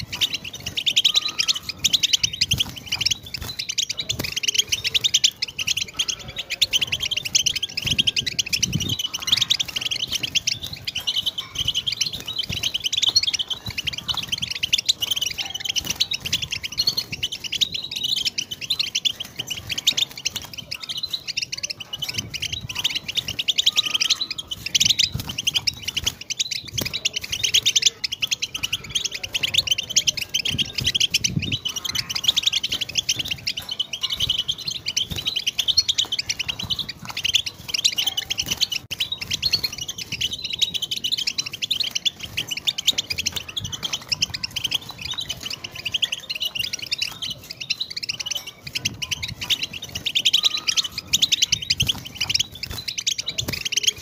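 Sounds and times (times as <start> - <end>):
finch singing: 0.0 - 54.0.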